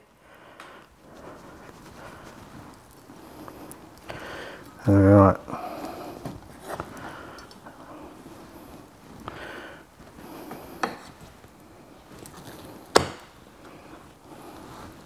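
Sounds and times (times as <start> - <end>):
soft handling noises: 0.4 - 15.0.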